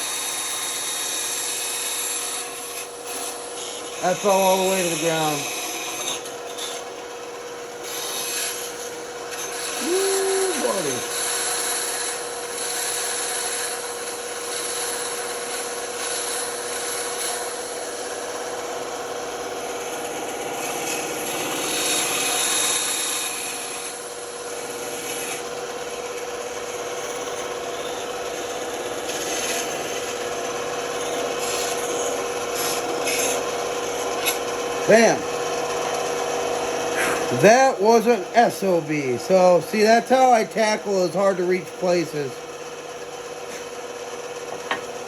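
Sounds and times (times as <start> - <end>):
saw blade cutting wood: 0.0 - 18.6, 19.2 - 45.0
band saw motor hum: 0.0 - 45.0.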